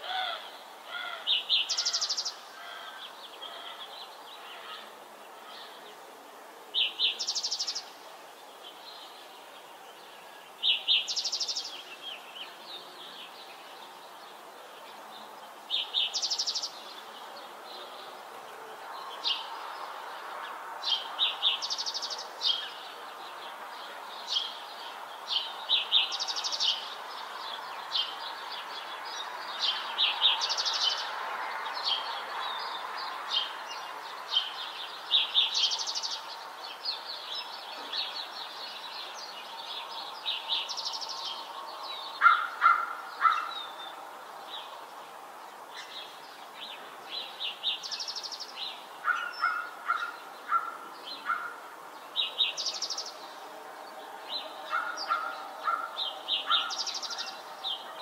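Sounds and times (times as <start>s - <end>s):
songbirds chirping and trilling: 0.0s - 58.0s
steady background hiss: 0.0s - 58.0s.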